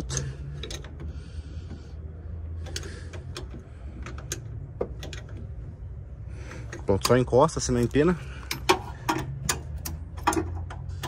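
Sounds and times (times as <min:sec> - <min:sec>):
wrench clicking and scraping: 0:00.0 - 0:01.9, 0:02.5 - 0:05.6, 0:06.5 - 0:11.0.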